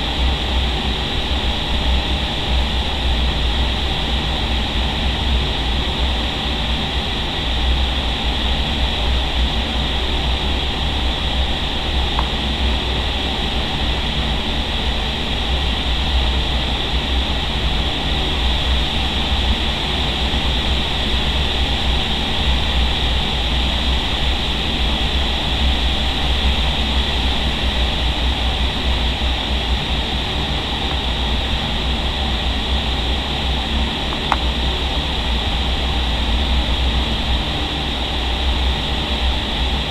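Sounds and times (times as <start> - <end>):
deep fan rumble: 0.0 - 39.9.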